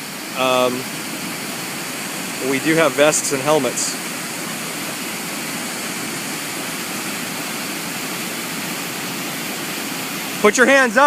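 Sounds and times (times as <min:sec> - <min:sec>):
water pouring over waterfall: 0:00.0 - 0:11.0.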